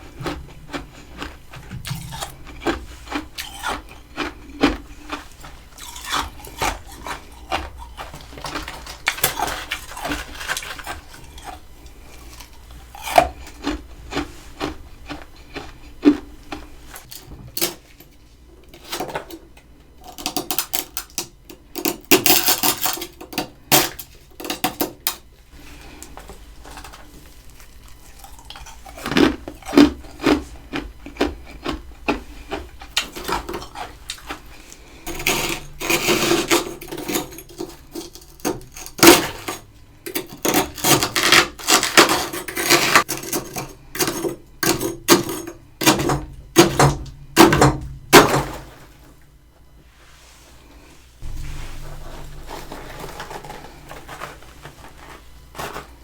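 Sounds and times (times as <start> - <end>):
utensil scraping freezer frost: 0.0 - 18.0, 20.1 - 46.9, 50.2 - 56.0.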